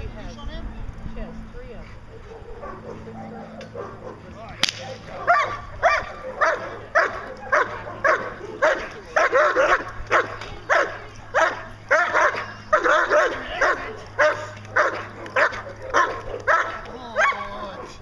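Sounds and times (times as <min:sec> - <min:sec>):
dog barking rapidly: 0:02.4 - 0:04.2, 0:04.8 - 0:17.9.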